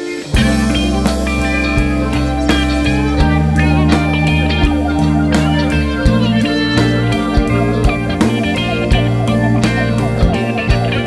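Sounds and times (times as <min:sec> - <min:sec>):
guitar music with beat: 0:00.0 - 0:11.0.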